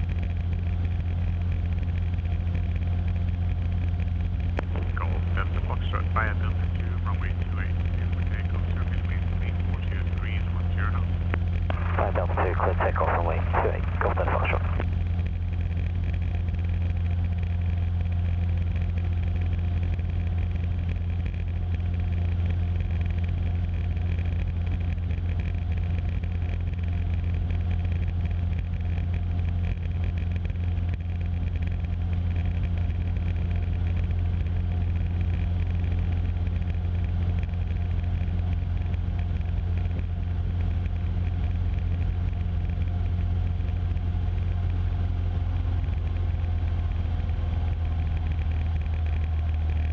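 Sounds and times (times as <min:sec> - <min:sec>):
light aircraft engine in flight: 0:00.0 - 0:49.9.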